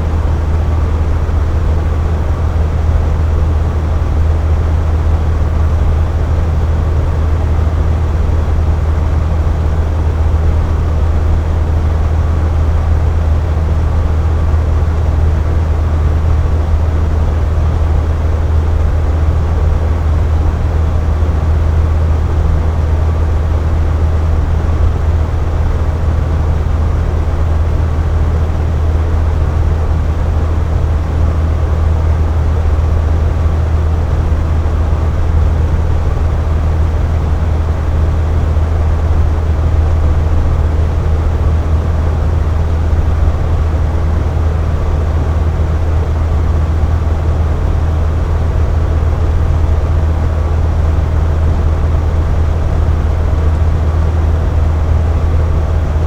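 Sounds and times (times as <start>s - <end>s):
air conditioner humming: 0.0s - 56.0s.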